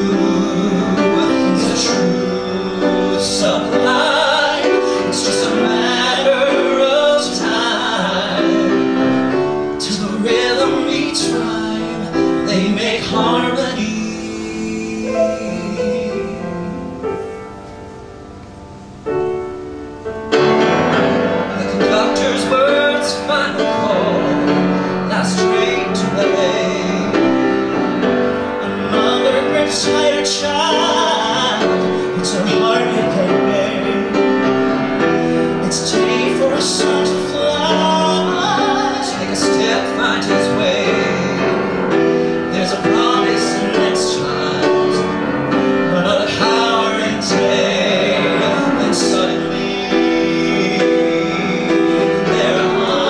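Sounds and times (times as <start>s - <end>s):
voices singing: 0.0s - 17.0s, 20.3s - 53.0s
grand piano: 0.0s - 53.0s.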